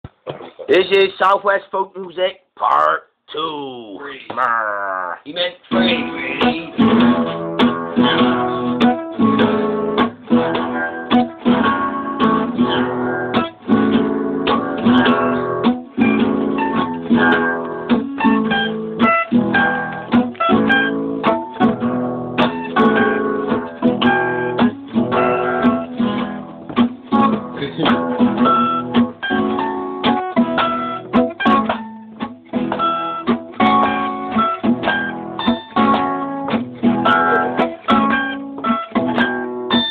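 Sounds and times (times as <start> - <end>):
guitar strumming and picking: 5.7 - 39.9.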